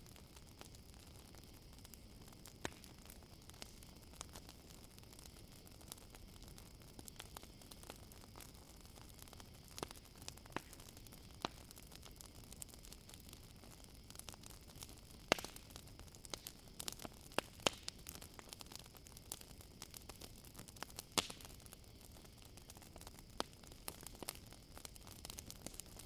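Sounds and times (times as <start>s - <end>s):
campfire crackling and popping: 0.0s - 26.0s
faint cricket chirring: 0.0s - 26.0s.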